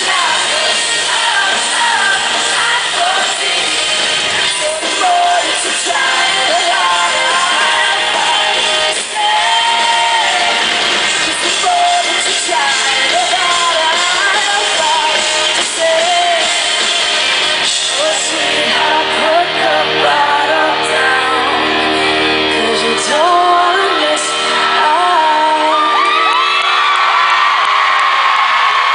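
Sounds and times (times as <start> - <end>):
woman singing live: 0.0 - 16.9, 17.7 - 26.6
pop-rock band with horns: 0.0 - 28.9.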